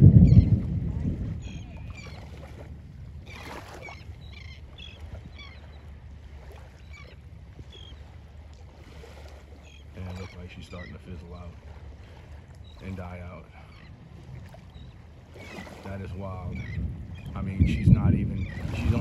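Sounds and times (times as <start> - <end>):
birds calling over water: 0.0 - 19.0
water noise: 0.0 - 19.0
wind buffeting microphone: 0.0 - 19.0.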